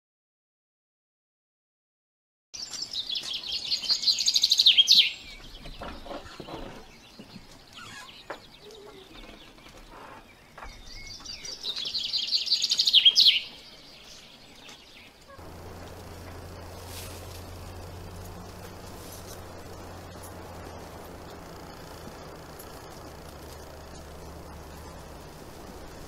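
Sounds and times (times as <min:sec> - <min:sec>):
faint bird chirps: 0:02.6 - 0:26.0
songbird singing: 0:02.6 - 0:26.0.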